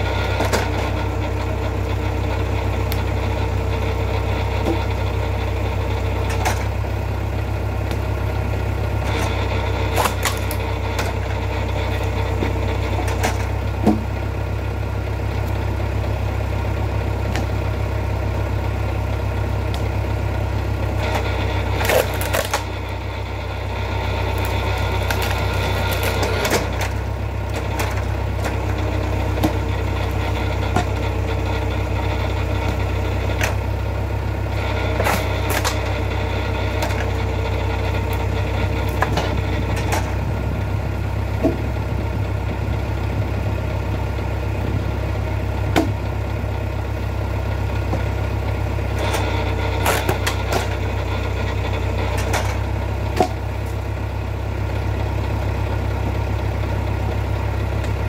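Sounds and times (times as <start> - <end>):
hydraulic whine: 0.0 - 58.0
log splitter engine running: 0.0 - 58.0
logs splitting with cracks: 0.1 - 58.0.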